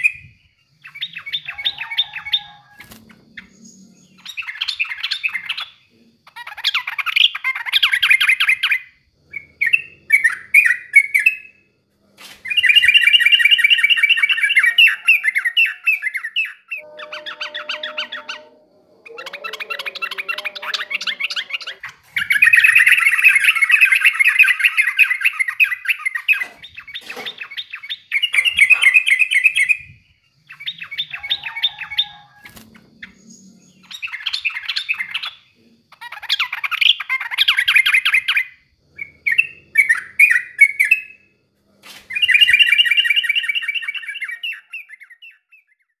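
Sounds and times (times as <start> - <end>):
bulbul singing chattering phrases: 0.0 - 11.7, 12.4 - 41.2.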